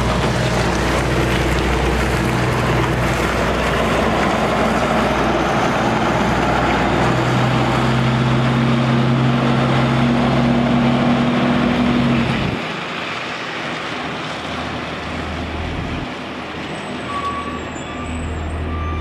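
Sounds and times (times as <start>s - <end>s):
truck diesel engine passing: 0.0s - 19.0s.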